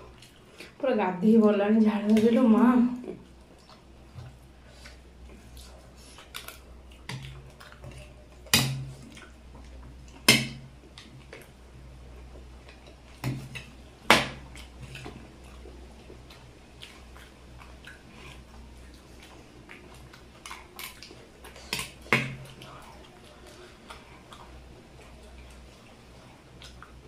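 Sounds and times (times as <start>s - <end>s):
chewing: 0.0s - 0.8s, 3.0s - 27.0s.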